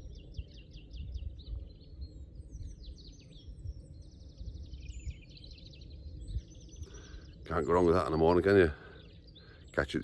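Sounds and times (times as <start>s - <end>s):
bird trill: 0.0s - 10.0s
songbirds chirping: 0.0s - 10.0s.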